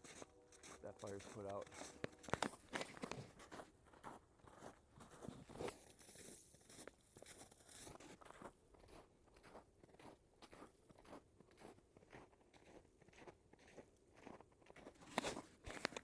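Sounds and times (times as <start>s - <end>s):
footsteps crunching: 0.0s - 16.0s.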